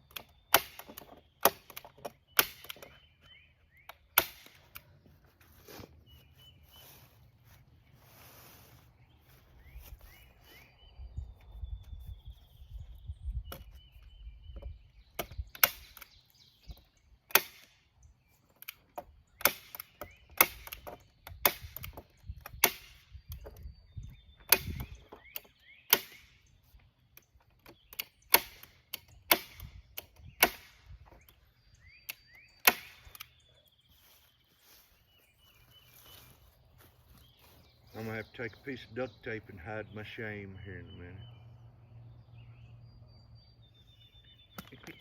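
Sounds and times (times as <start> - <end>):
faint birds chirping: 0.0 - 45.0.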